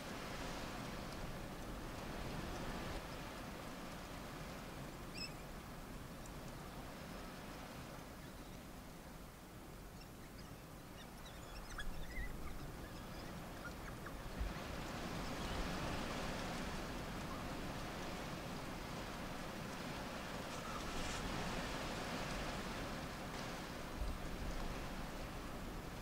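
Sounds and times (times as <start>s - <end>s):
rustle of dry grass and brush: 0.0s - 26.0s.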